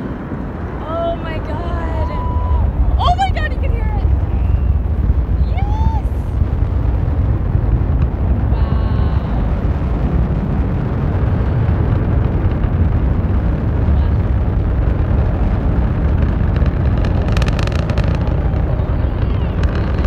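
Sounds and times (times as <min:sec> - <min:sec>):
crackling burst: 0:00.0 - 0:20.0
distant rocket engine rumble: 0:00.0 - 0:20.0.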